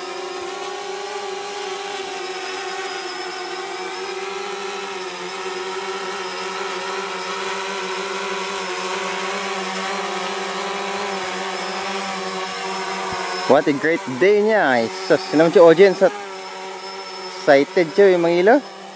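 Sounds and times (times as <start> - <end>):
drone propellers buzzing: 0.0 - 18.9.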